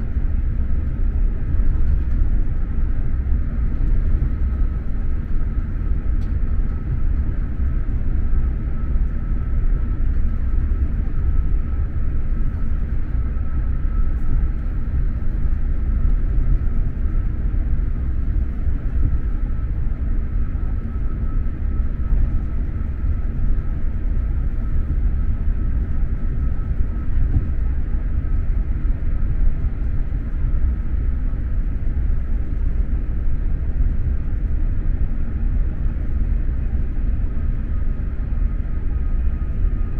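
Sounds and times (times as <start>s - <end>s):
train rumbling from inside carriage: 0.0s - 39.9s.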